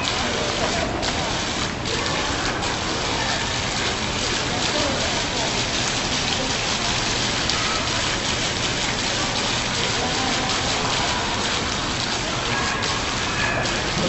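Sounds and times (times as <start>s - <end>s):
water curtain splashing into basin: 0.0s - 14.0s.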